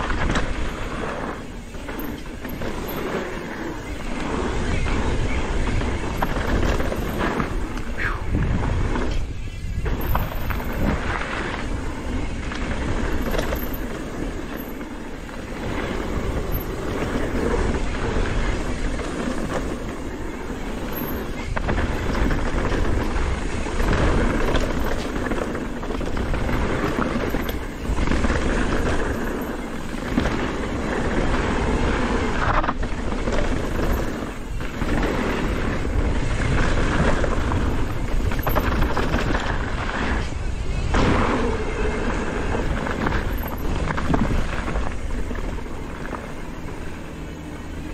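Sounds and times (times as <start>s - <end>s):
bike rattling over rough ground: 0.0s - 47.9s
tyres on dirt: 0.0s - 47.9s
wind on microphone: 0.0s - 47.9s.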